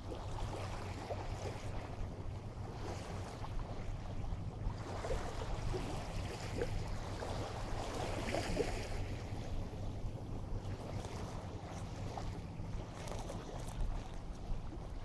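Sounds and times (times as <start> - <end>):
water lapping along shore: 0.0 - 15.0
wind: 0.0 - 15.0.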